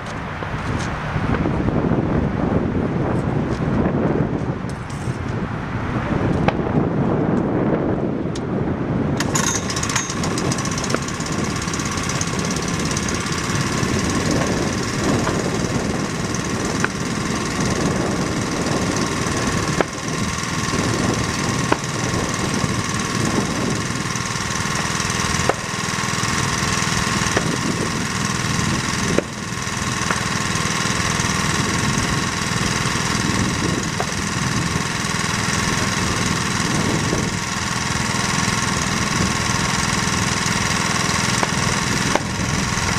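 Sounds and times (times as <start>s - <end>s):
pulse jet engine buzzing drone: 0.0s - 42.9s.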